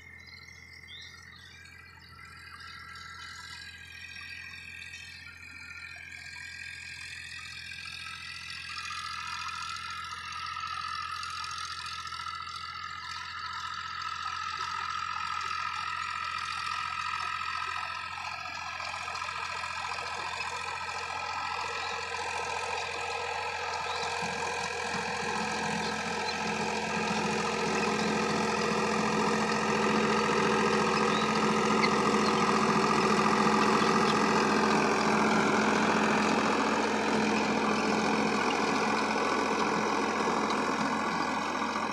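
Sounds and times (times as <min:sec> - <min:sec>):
tractor diesel engine under load: 0:00.0 - 0:41.9.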